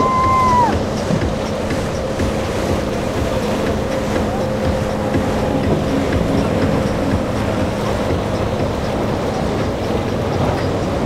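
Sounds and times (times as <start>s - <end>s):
outboard motor hum: 0.0s - 11.0s
wake and waves rushing: 0.0s - 11.0s.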